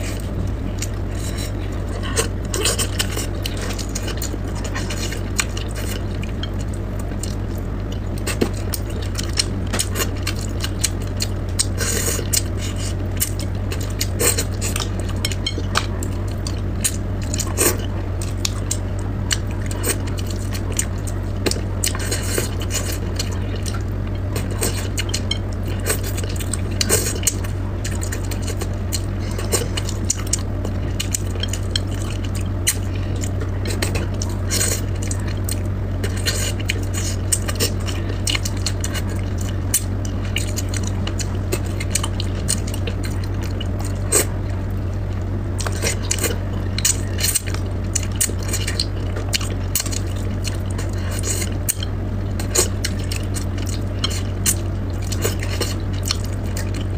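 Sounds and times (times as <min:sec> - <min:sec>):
low hum: 0:00.0 - 0:56.9.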